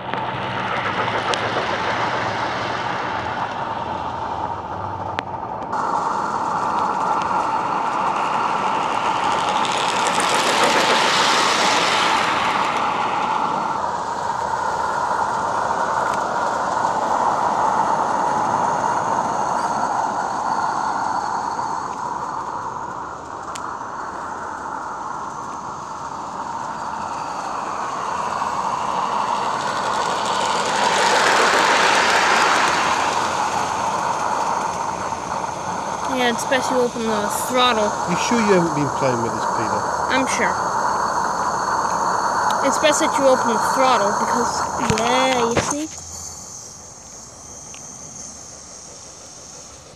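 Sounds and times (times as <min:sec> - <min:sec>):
rushes of steam: 0:00.0 - 0:49.9
steam locomotive hissing: 0:00.0 - 0:49.9.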